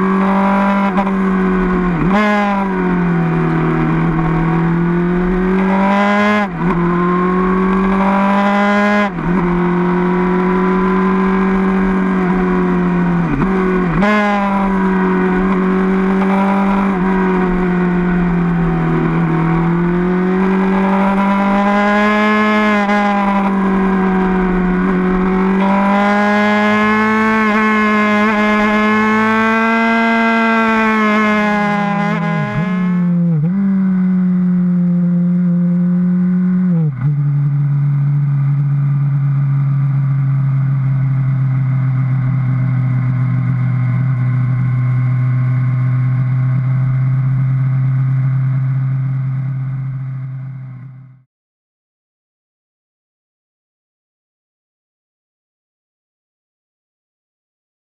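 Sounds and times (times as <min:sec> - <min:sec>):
motorcycle engine at high revs: 0:00.0 - 0:50.7.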